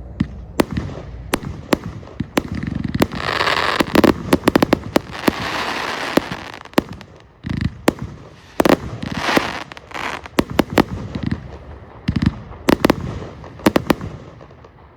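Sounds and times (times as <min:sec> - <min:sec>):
firework cracks and booms: 0:00.0 - 0:14.9.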